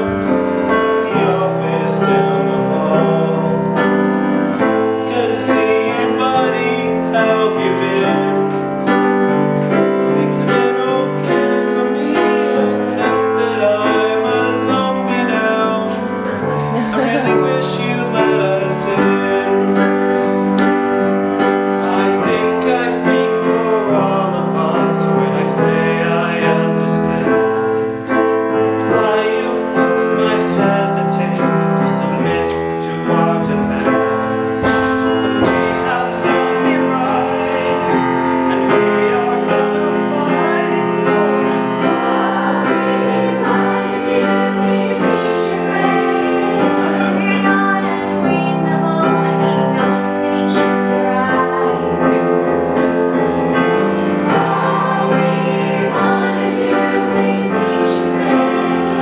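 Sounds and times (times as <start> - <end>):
grand piano accompaniment: 0.0 - 59.0
young voices singing together: 0.0 - 59.0.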